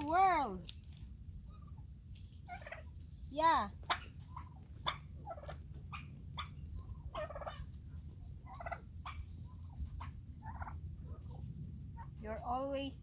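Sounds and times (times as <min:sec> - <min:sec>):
turkeys calling: 0:00.9 - 0:12.2.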